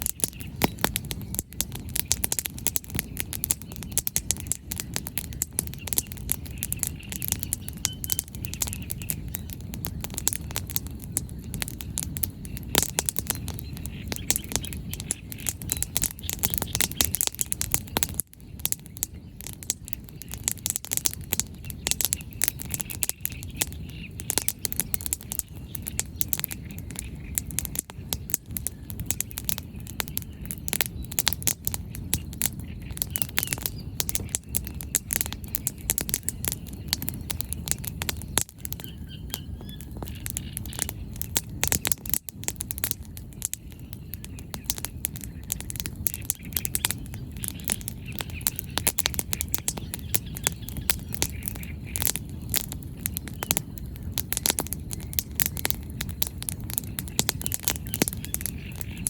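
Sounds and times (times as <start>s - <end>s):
faint bird chirps: 0.0s - 42.6s, 43.4s - 59.0s
bonfire crackling and popping: 0.0s - 59.0s.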